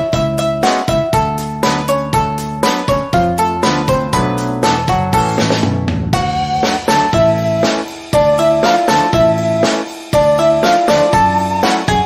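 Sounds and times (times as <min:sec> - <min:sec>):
bright melody: 0:00.0 - 0:12.0
steady drum beat: 0:00.0 - 0:12.0.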